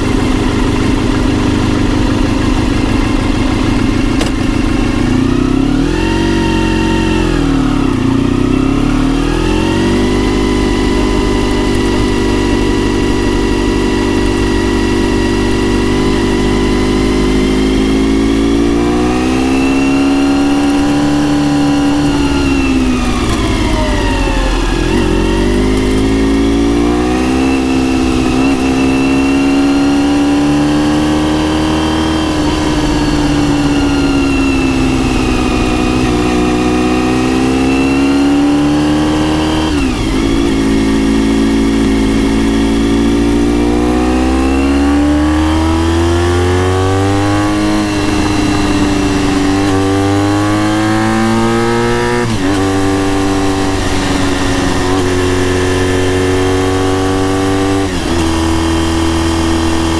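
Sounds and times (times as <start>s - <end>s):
motorcycle engine revving and upshifting: 0.0s - 59.9s.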